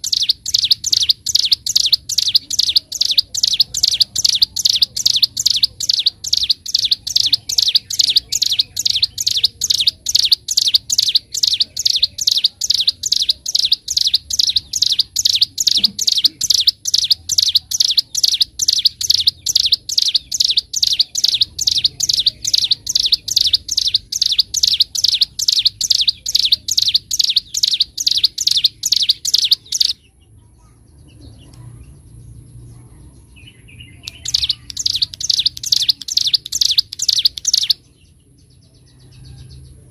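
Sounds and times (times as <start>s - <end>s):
songbird fast chirping song: 0.0s - 39.9s.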